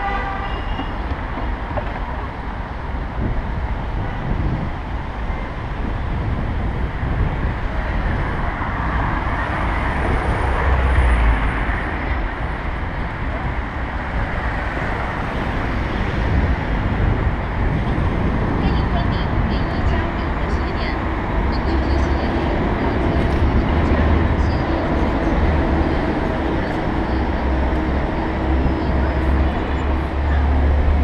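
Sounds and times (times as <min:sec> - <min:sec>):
city traffic: 0:00.0 - 0:31.0
wind rumble on microphone: 0:00.3 - 0:31.0.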